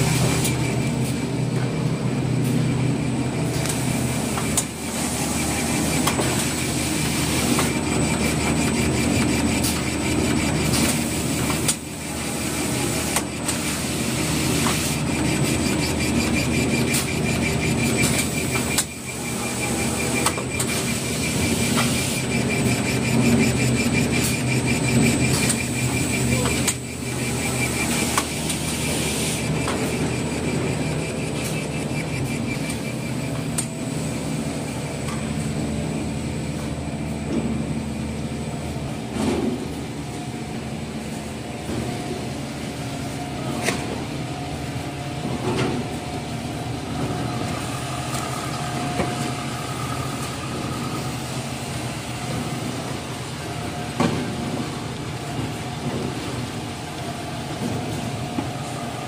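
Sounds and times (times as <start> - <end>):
machinery clatter and hum: 0.0 - 59.0.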